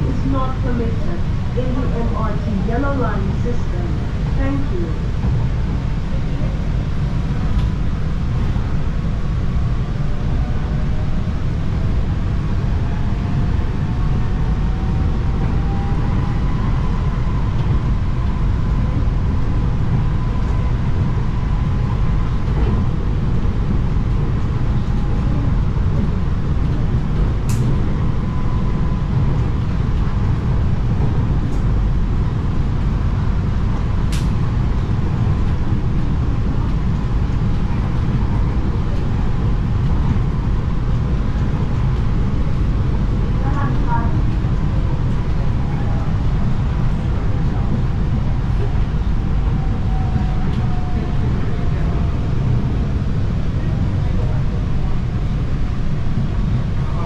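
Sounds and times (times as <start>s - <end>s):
train running rumble and whine: 0.0s - 57.0s.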